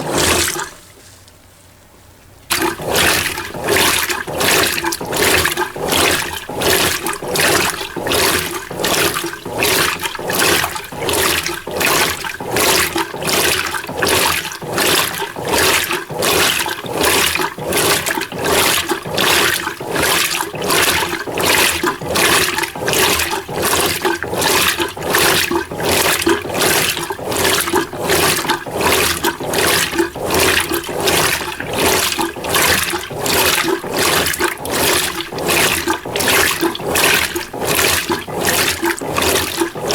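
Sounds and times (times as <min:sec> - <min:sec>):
washing machine water sloshing: 0:00.0 - 0:01.3, 0:02.4 - 0:39.9.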